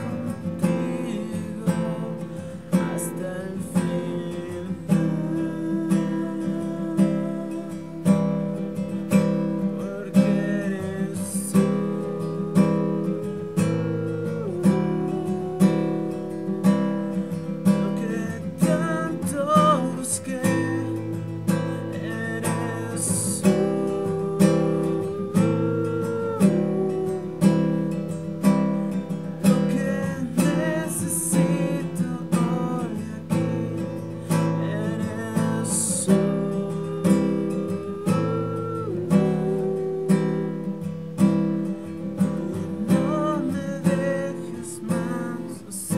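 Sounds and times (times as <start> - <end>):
strummed acoustic guitar: 0.0 - 45.9.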